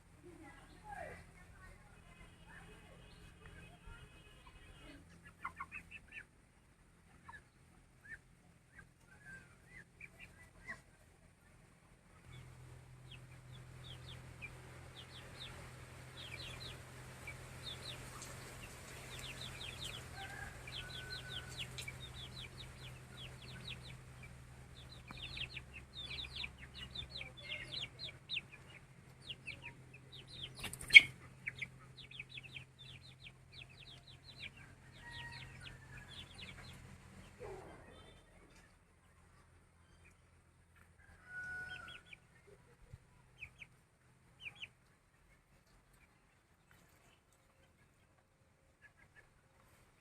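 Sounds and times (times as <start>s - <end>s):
chickens clucking and calling: 4.4s - 50.0s.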